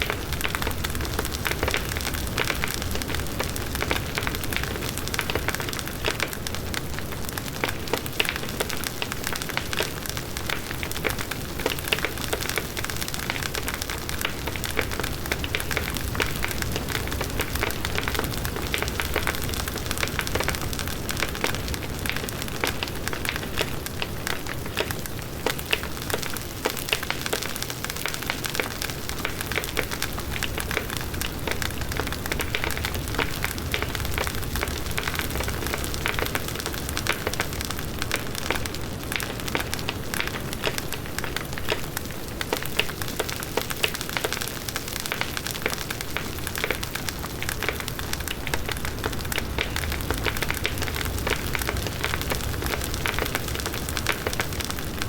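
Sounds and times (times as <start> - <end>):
burning wood crackling and popping: 0.0 - 55.0.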